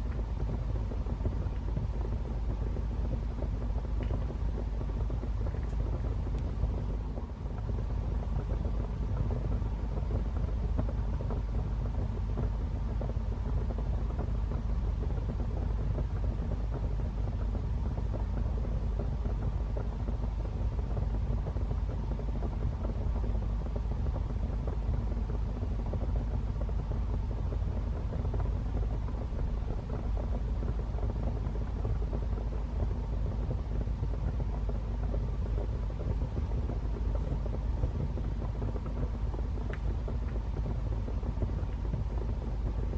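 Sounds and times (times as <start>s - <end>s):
wood fire roaring: 0.0s - 42.9s.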